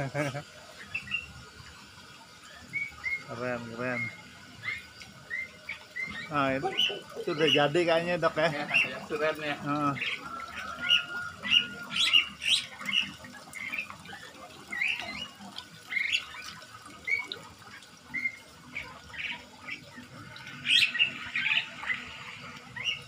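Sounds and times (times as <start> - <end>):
songbirds chirping and squawking: 0.4 - 23.0.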